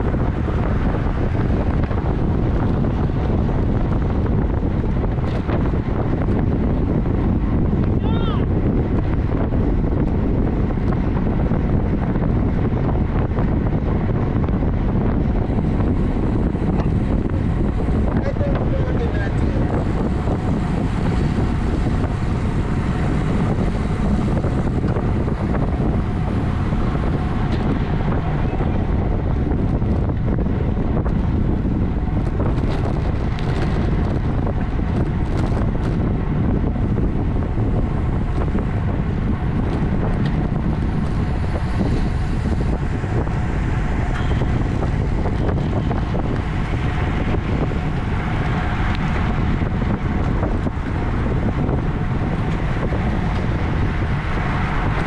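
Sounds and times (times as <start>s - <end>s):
wind buffeting the microphone: 0.0s - 55.0s.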